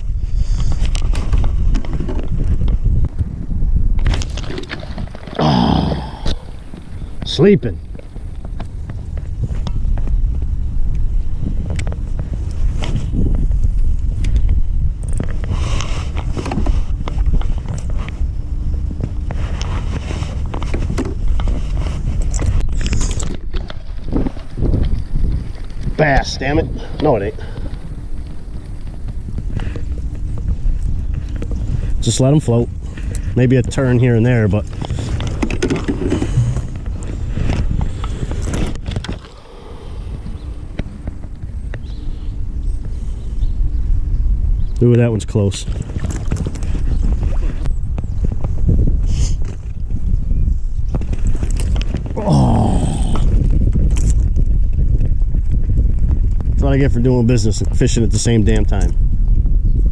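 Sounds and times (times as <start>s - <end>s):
faint steady hum: 0.0s - 55.4s
wind rumbling on microphone: 0.0s - 59.9s.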